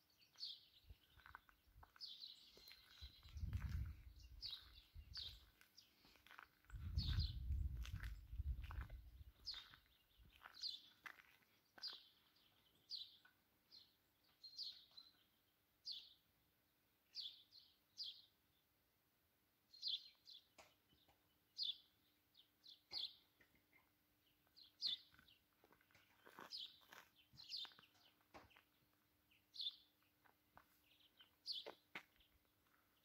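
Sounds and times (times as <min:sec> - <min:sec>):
songbird chirping: 0:00.0 - 0:18.9, 0:19.6 - 0:33.0.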